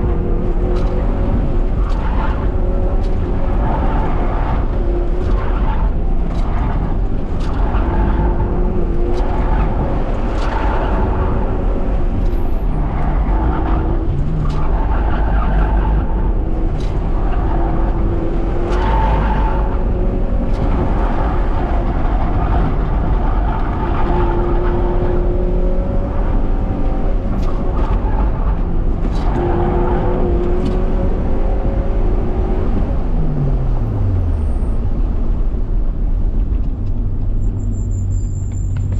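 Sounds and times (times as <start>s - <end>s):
car engine revving: 0.0s - 38.9s
tires squealing: 0.0s - 38.9s.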